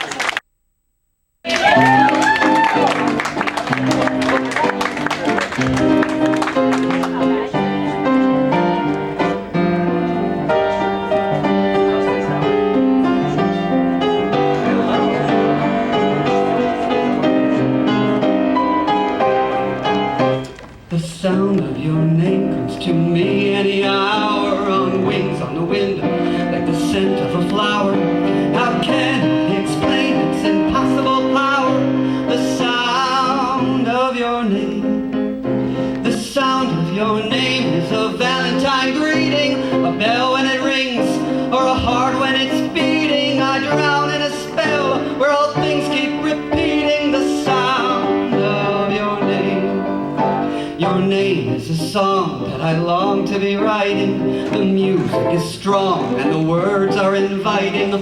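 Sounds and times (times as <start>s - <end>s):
piano accompaniment: 1.6s - 58.0s.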